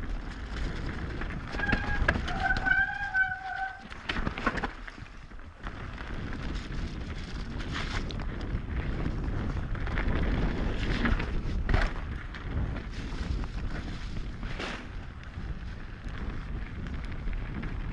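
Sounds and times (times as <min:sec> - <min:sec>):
bike frame and chain rattle: 0:00.0 - 0:17.9
bike tyre noise on dirt: 0:00.0 - 0:17.9
wind on microphone: 0:00.0 - 0:17.9.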